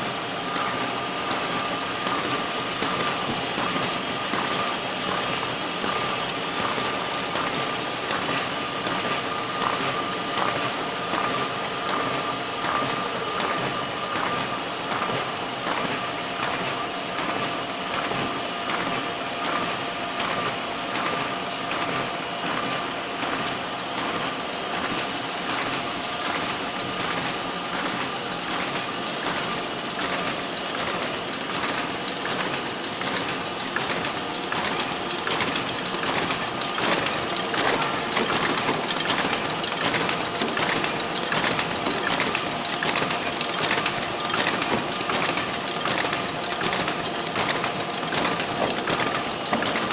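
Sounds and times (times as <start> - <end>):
paper folding machine clatter: 0.0 - 49.9.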